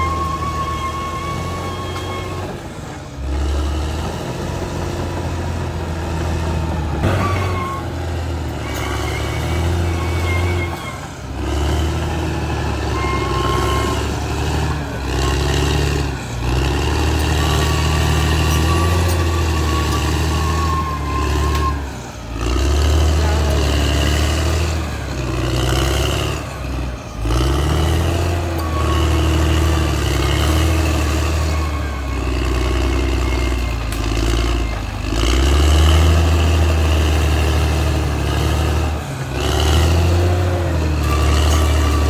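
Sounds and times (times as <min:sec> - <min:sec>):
bulldozer diesel engine working: 0:00.0 - 0:42.0.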